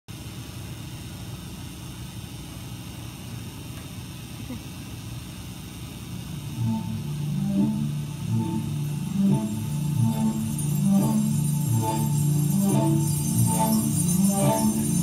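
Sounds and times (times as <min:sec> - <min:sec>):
low room rumble: 0:00.1 - 0:15.0.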